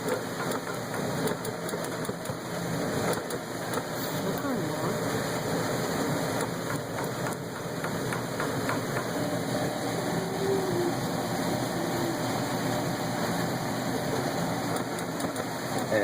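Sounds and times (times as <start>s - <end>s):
furnace humming: 0.0s - 16.0s.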